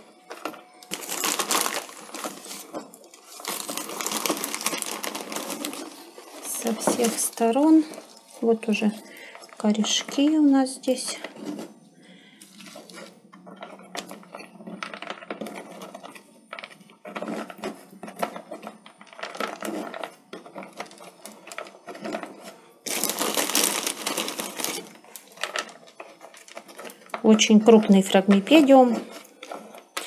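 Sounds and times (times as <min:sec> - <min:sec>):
plastic bag rustling: 0:00.0 - 0:30.0.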